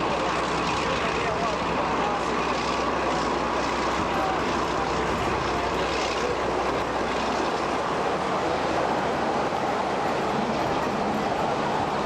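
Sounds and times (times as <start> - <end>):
locomotive engine running: 0.0 - 12.0.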